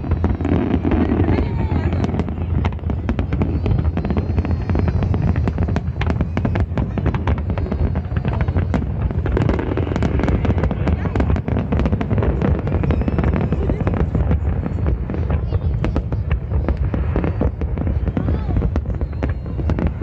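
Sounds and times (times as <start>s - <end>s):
fireworks bangs and pops: 0.0s - 20.0s.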